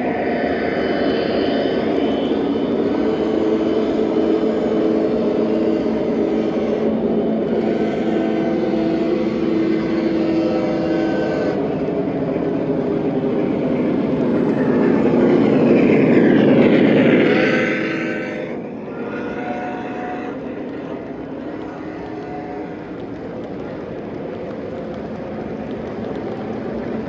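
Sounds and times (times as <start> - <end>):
model train running on track: 0.0 - 27.0.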